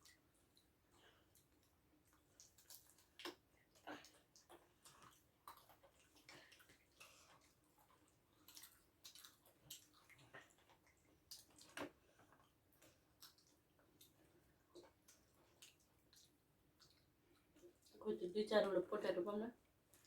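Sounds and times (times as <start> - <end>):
soft chewing: 0.0 - 18.1, 19.6 - 20.0.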